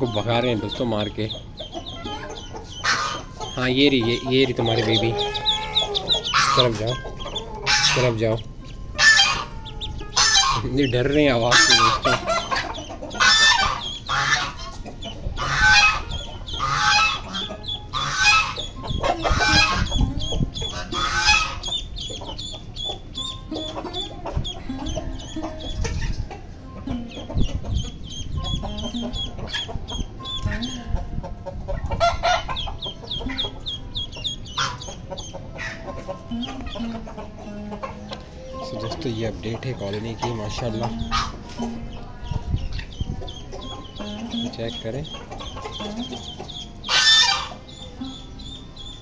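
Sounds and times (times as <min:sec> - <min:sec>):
ducks giving harsh calls: 0:00.0 - 0:26.2, 0:31.7 - 0:38.0, 0:39.9 - 0:41.8, 0:42.8 - 0:49.0
hen clucking: 0:00.0 - 0:49.0.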